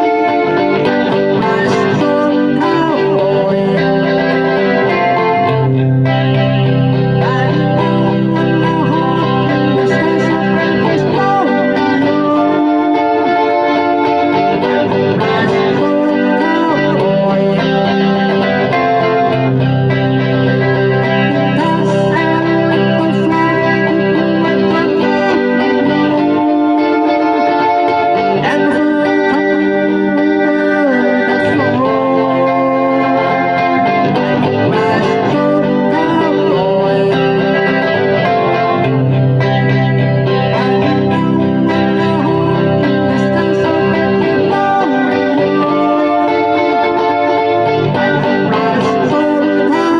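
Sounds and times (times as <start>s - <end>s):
electric guitar melody with effects: 0.0s - 49.9s.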